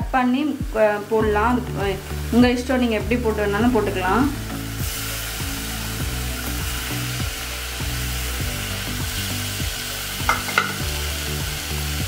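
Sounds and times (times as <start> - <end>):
background music: 0.0 - 12.0
spices sizzling in a pot: 0.1 - 12.0.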